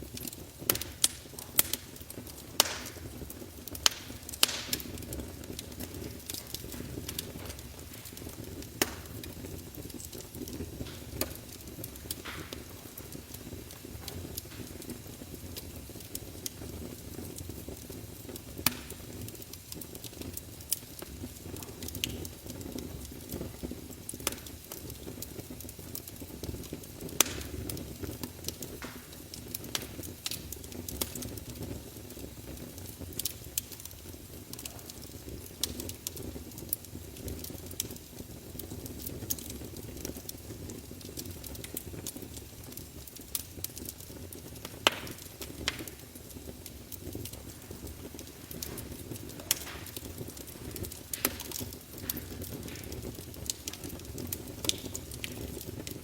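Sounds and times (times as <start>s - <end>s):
sharp fire pops: 0.0s - 56.0s
wood fire crackling: 0.0s - 56.0s.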